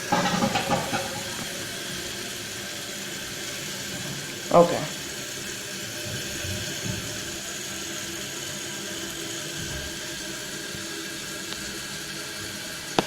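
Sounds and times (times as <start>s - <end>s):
toilet fill valve hissing: 0.0s - 13.0s.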